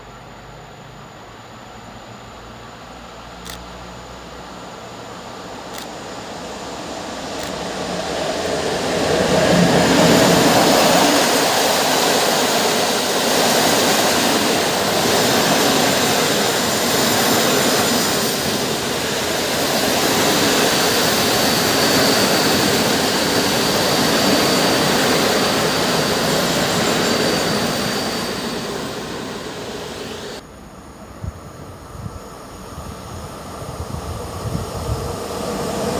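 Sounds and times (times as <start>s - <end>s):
faint high whine: 0.0s - 35.9s
train wheel-and-rail noise: 3.0s - 35.9s.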